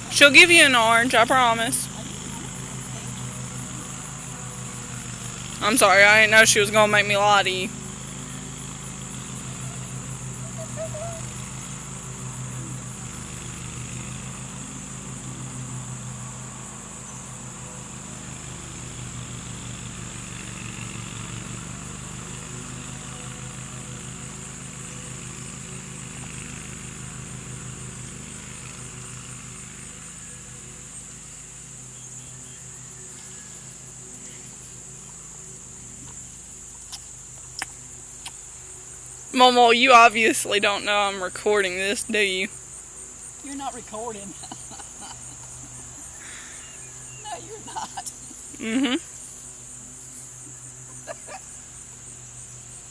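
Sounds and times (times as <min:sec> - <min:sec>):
engine idling hum: 0:00.0 - 0:52.9
insects droning: 0:00.0 - 0:52.9.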